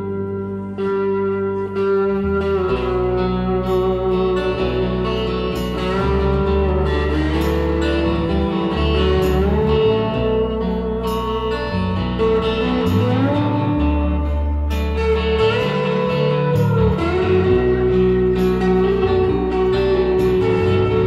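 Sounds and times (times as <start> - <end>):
bass: 0.0 - 21.0
guitar lead with sliding notes: 0.0 - 21.0.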